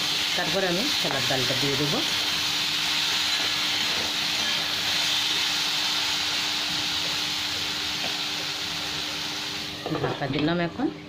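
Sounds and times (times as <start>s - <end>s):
vegetables sizzling in hot oil: 0.0s - 10.4s.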